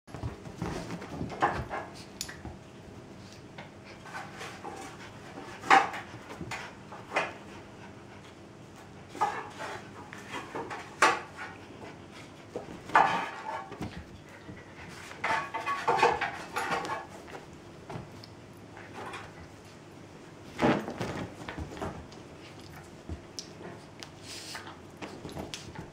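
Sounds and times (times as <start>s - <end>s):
dog and kitten scuffling: 0.1s - 25.9s.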